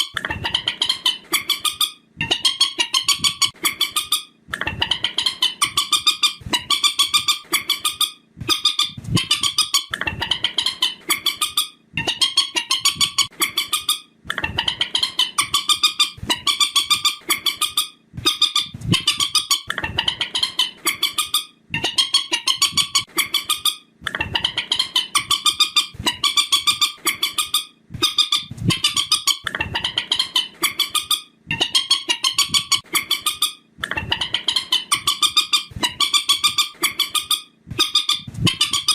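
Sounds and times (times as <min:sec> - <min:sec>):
recorded bird call: 0:00.0 - 0:38.9.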